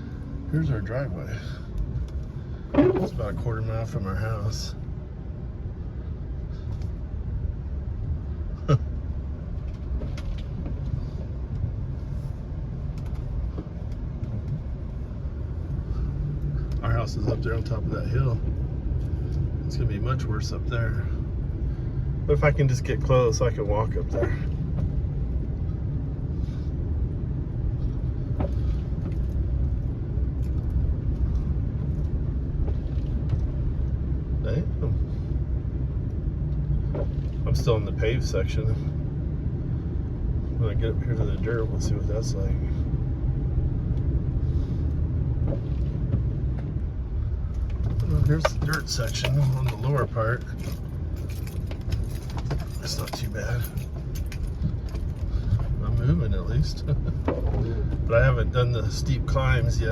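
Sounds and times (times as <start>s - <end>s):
truck driving on snow: 0.0s - 59.9s.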